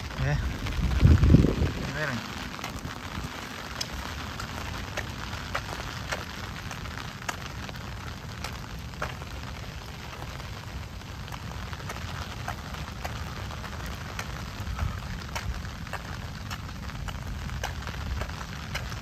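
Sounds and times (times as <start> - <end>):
low rumble: 0.0 - 19.0
rain falling steadily: 0.0 - 19.0
sharp taps of raindrops: 0.0 - 19.0.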